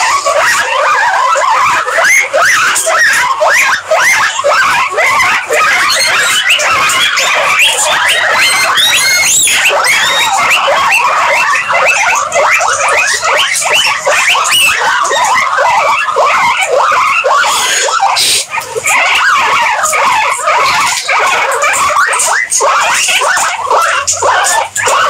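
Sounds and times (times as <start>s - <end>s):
guinea pigs squeaking: 0.0s - 25.0s.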